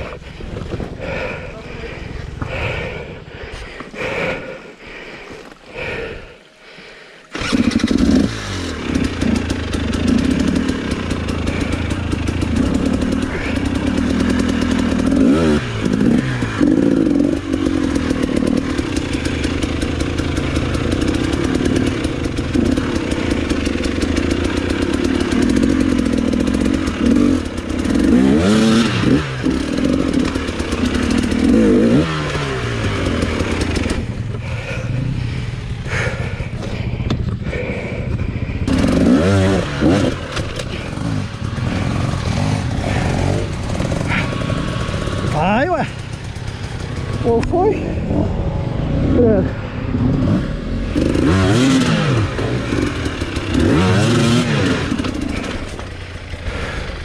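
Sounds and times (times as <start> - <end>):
motorcycle engine revving: 0.0 - 4.6, 7.3 - 57.0.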